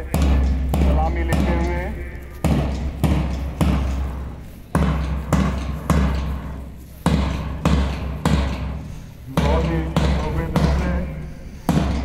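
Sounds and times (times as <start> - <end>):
marching drum strokes: 0.0 - 12.0.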